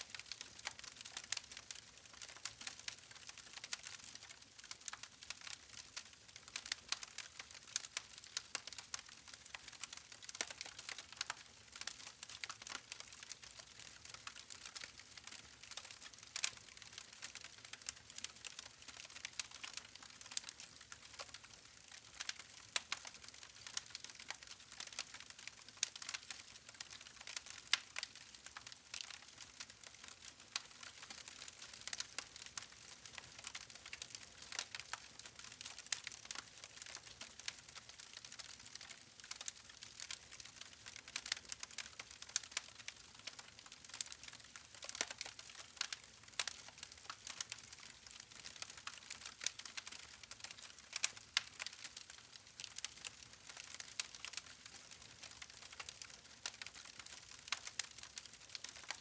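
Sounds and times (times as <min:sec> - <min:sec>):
campfire crackling and popping: 0:00.1 - 0:59.0.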